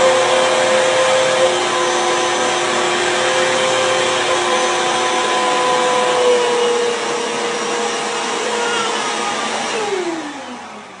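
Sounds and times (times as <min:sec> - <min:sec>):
vacuum cleaner running: 0:00.0 - 0:11.0
vacuum motor spinning down: 0:00.0 - 0:11.0.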